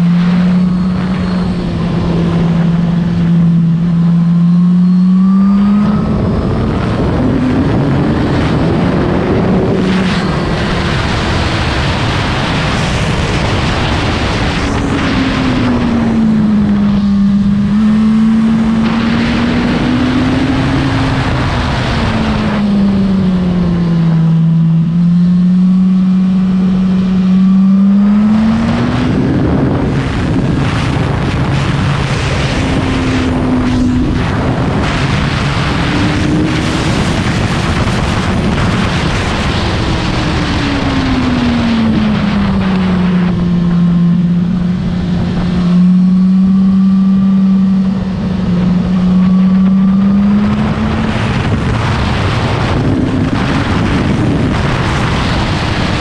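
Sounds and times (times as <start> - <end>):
motorcycle engine at speed: 0.0 - 56.0
wind rushing over microphone: 0.0 - 56.0.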